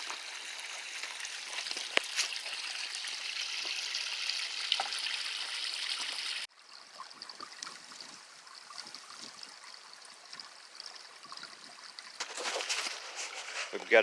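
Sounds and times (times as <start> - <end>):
water trickling in stream: 0.0 - 14.0.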